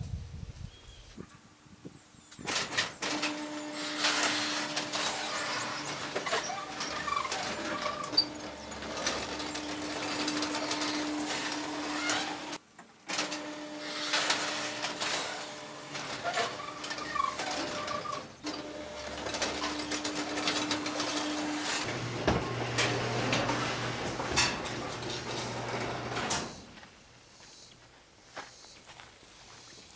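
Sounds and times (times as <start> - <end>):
garage door motor hum: 2.5 - 26.8.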